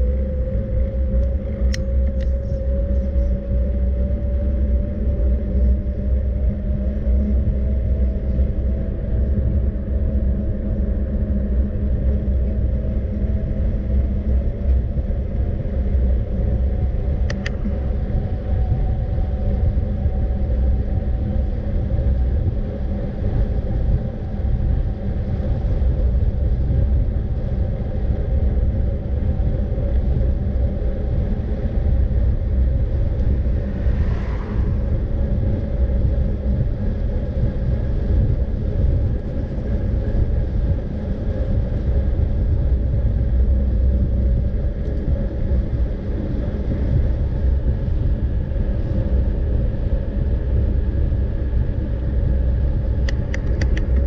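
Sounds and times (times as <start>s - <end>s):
hum rising in pitch: 0.0s - 54.0s
moving vehicle rumble: 0.0s - 54.0s.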